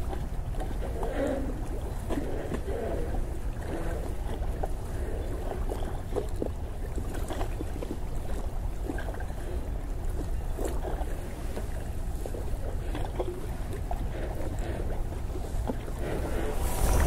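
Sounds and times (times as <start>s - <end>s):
small waves lapping: 0.0s - 17.0s
wind rumbling on microphone: 0.0s - 17.0s.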